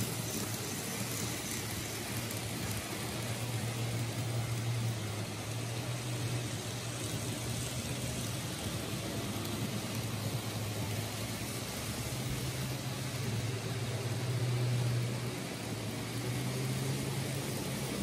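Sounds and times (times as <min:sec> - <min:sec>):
model train motor hum: 0:00.0 - 0:18.0
wheels hissing on rails: 0:00.0 - 0:18.0.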